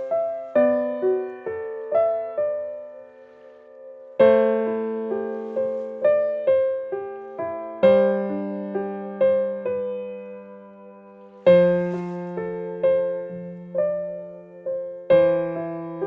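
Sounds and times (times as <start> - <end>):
slow gentle solo piano melody: 0.0 - 16.0.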